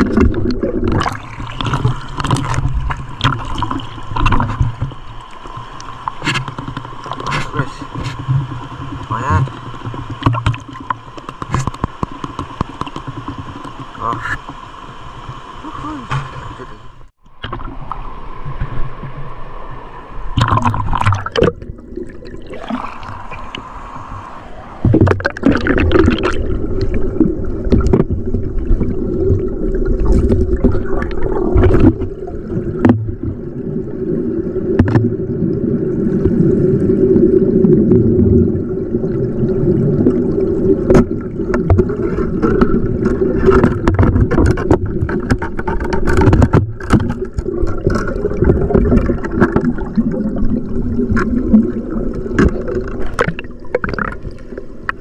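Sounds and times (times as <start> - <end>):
water splashing along hull: 0.0 - 55.0.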